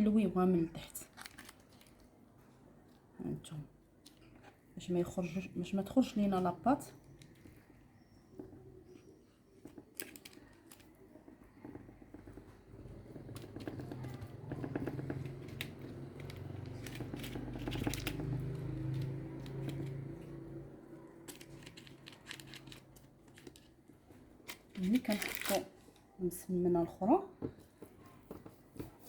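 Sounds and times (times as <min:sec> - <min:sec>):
hands working sticky dough: 0:00.0 - 0:29.0.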